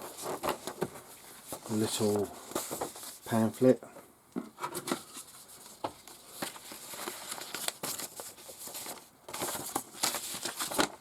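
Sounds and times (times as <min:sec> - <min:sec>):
paper rustling: 0:00.0 - 0:03.6, 0:04.6 - 0:11.0.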